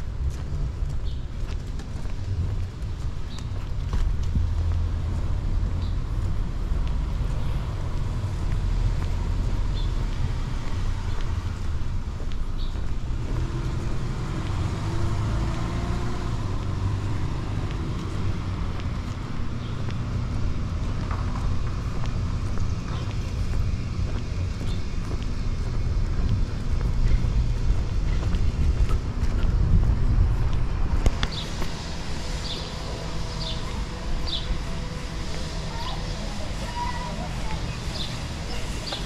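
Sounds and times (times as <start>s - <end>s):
passing cars rumble: 0.0s - 39.0s.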